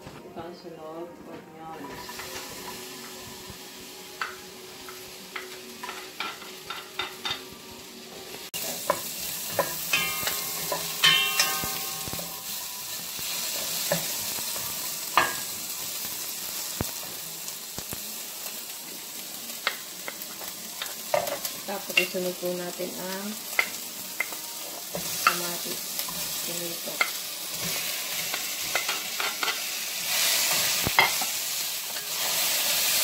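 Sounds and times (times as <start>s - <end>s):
onion sizzling in oil: 1.9s - 33.0s.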